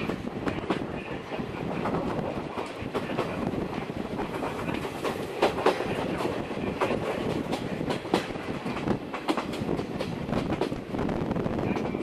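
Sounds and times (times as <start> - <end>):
train rumble from inside coach: 0.0 - 12.0.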